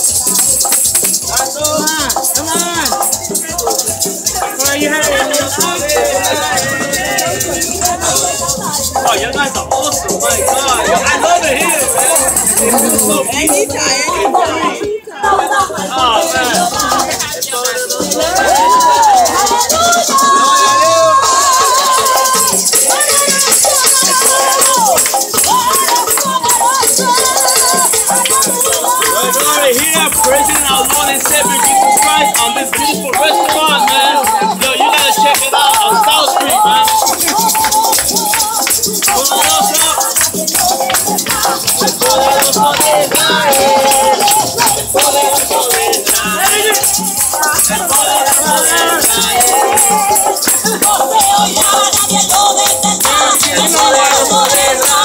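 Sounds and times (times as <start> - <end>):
lively praise music: 0.0 - 55.0
maracas shaking: 0.0 - 55.0
song with singing voice and beat: 0.0 - 55.0
tambourine shaking: 0.0 - 55.0
wavering melody line: 3.1 - 14.8, 18.2 - 55.0.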